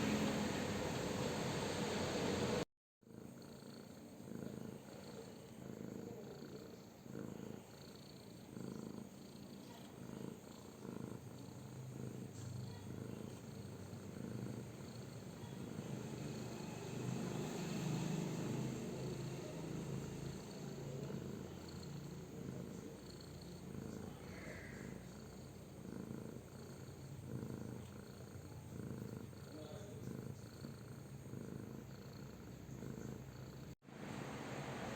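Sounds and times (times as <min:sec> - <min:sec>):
cat purring: 0:00.0 - 0:34.2.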